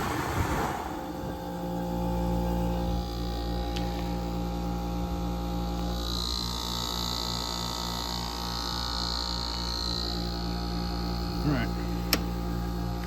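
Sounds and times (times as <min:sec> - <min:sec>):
air conditioner compressor hum: 0:00.0 - 0:13.0.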